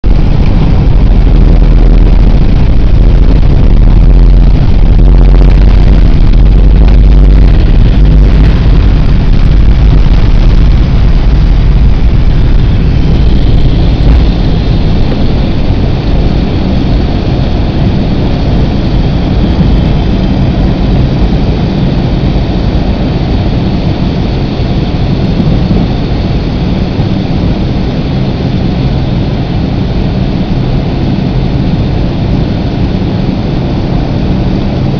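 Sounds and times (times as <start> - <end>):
heavy low rumble: 0.0 - 34.9
jet engines roaring: 0.0 - 34.9.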